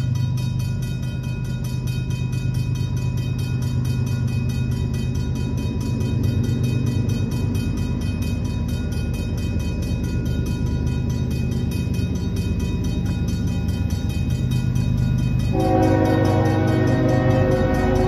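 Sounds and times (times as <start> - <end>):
crossing bell ringing: 0.0 - 18.0
diesel locomotive rumble: 0.0 - 18.0.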